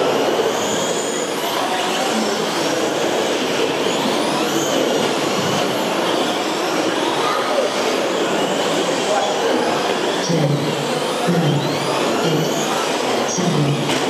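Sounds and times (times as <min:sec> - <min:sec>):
high motor whines: 0:00.0 - 0:14.0
rc trucks racing: 0:00.0 - 0:14.0.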